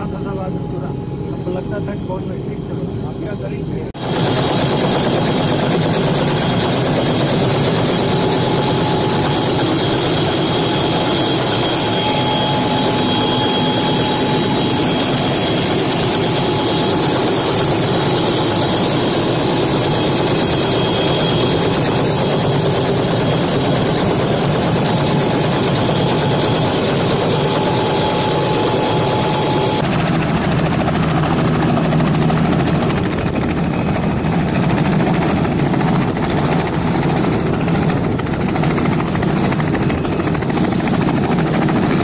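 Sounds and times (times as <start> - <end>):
helicopter engine and rotor: 0.0 - 42.0.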